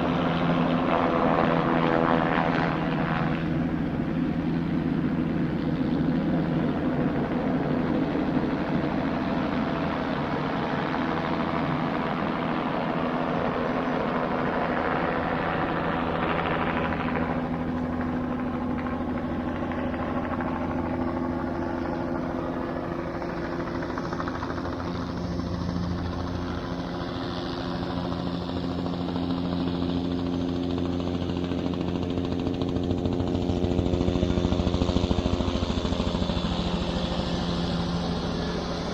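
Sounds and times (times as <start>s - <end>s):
helicopter rotor chop and hum: 0.0s - 38.9s.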